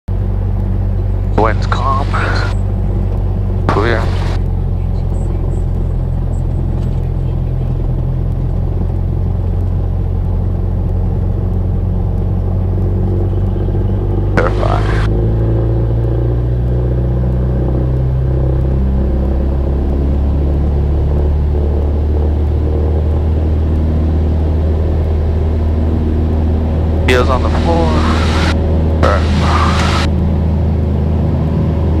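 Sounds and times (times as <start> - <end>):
piston aircraft engine running: 0.1 - 32.0.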